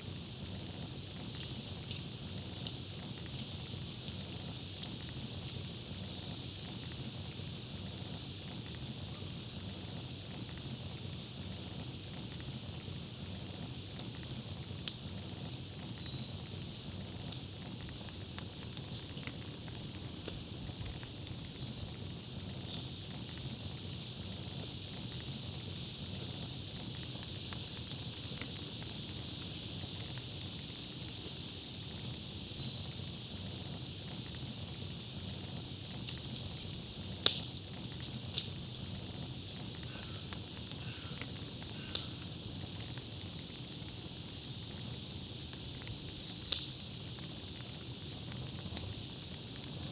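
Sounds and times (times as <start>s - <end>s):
campfire crackling and popping: 0.0s - 49.9s
low rush of burning wood: 0.0s - 49.9s.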